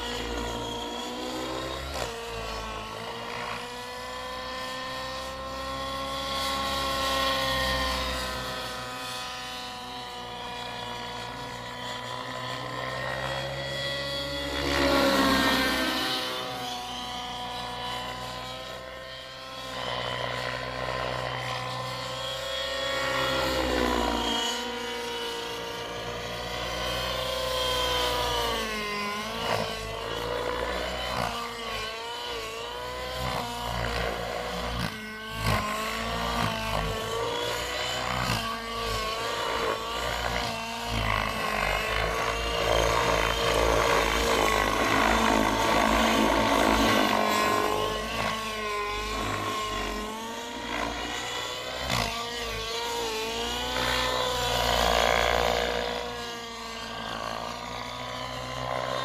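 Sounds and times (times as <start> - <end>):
model helicopter engine and rotor whine: 0.0 - 59.0.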